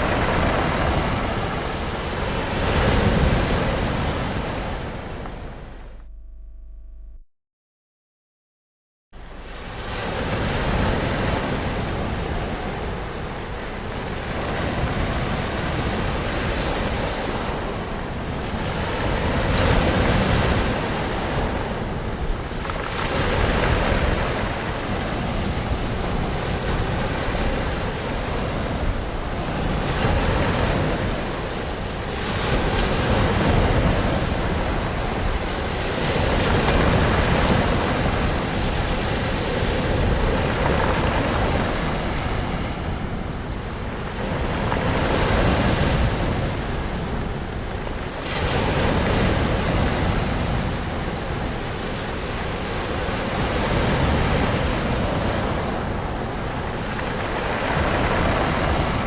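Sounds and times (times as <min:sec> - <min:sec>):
waves breaking: 0:00.0 - 0:06.0, 0:09.2 - 0:59.0.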